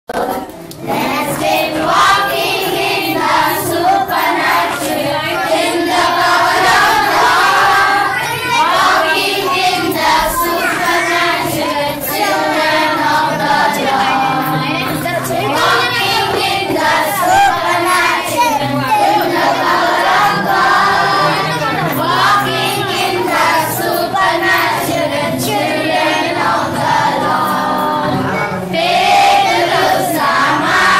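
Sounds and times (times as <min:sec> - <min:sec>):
children singing: 0:00.1 - 0:30.9.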